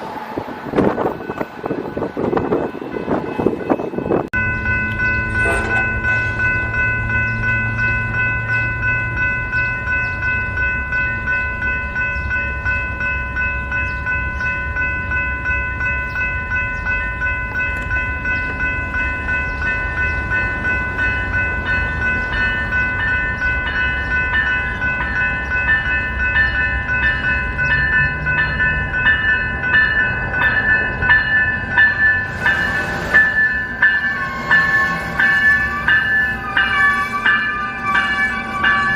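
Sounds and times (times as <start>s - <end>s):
train rumbling on tracks: 0.0s - 38.9s
high ringing tones: 2.3s - 38.9s.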